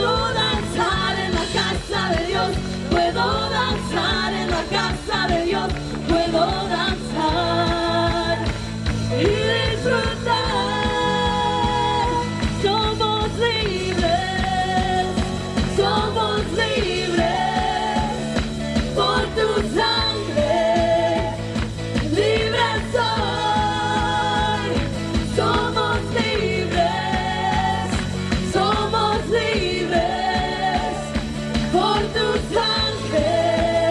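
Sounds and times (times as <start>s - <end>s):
band with bass and drums: 0.0s - 33.9s.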